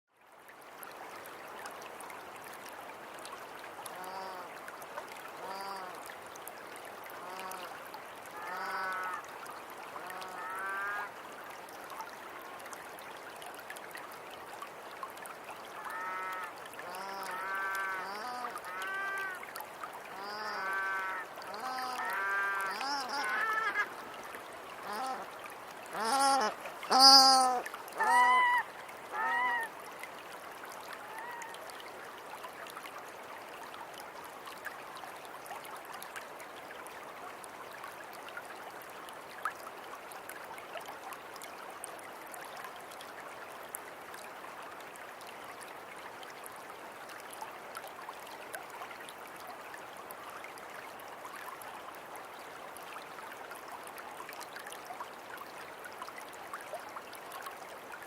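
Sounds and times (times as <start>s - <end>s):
river water flowing: 0.1s - 58.0s.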